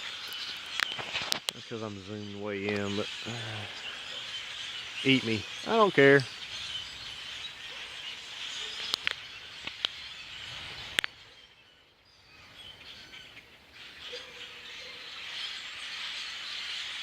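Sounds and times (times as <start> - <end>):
flock of birds chattering: 0.0 - 17.0.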